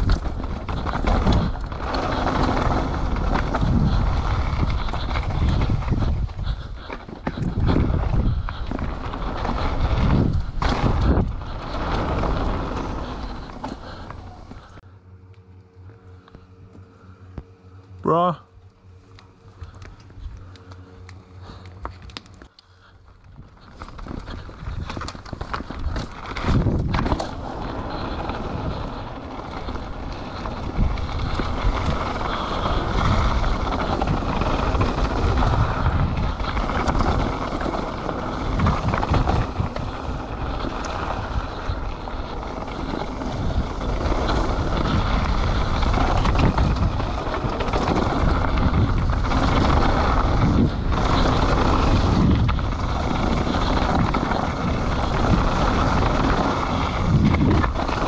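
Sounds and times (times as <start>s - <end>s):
wind rushing over microphone: 0.0s - 14.8s, 23.3s - 58.0s
bike knocking and rattling: 0.0s - 14.9s, 19.0s - 58.0s
bike tyres rolling on dirt: 0.0s - 58.0s.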